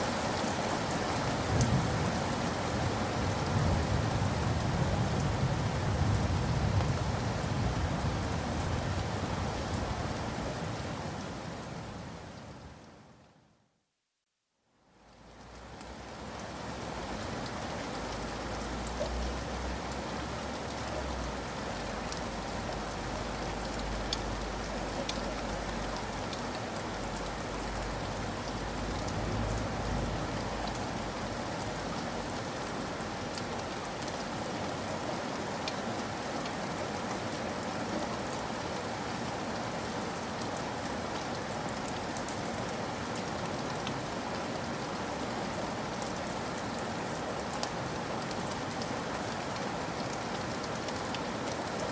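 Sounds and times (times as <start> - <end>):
rain drops ticking: 0.0 - 13.4, 14.8 - 51.9
steady rain hiss: 0.0 - 51.9.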